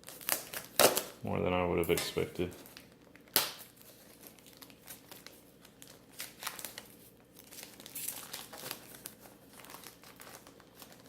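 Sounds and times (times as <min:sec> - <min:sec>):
packaging crinkling and rustling: 0:00.0 - 0:01.2, 0:01.8 - 0:11.0.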